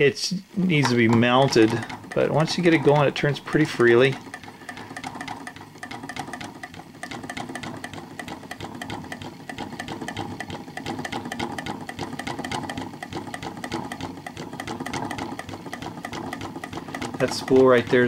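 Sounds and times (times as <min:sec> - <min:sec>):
sewing machine clicking: 0:00.7 - 0:18.0.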